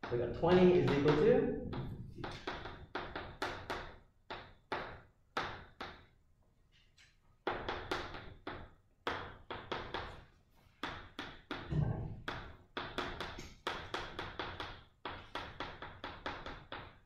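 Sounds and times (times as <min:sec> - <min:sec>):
chalk tapping on a chalkboard: 0:00.0 - 0:06.1, 0:07.4 - 0:17.0.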